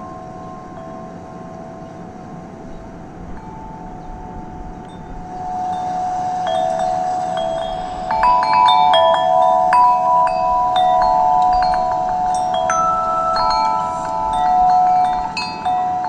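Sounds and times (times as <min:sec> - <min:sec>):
metal wind chime ringing: 0:00.0 - 0:16.0.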